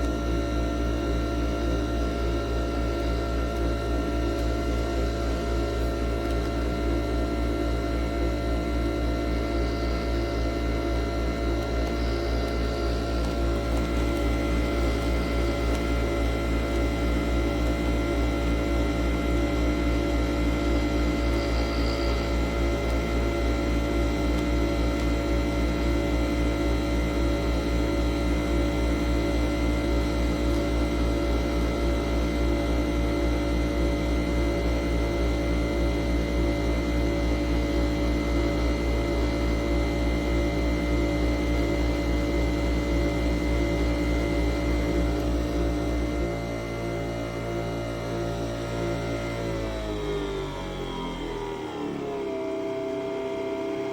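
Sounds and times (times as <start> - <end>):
coffee machine humming: 0.0 - 53.9.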